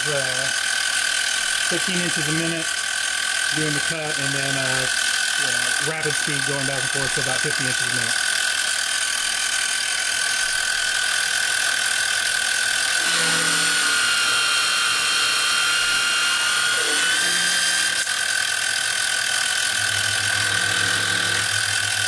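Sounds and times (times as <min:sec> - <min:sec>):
milling machine cutting metal: 0:00.0 - 0:22.0.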